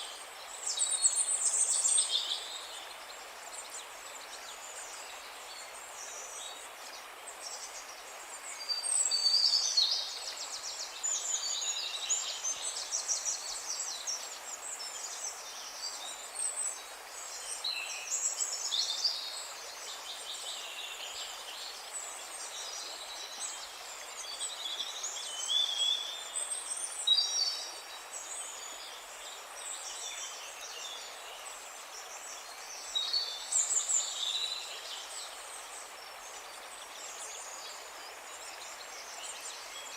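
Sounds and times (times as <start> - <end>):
soft outdoor hiss: 0.0 - 39.9.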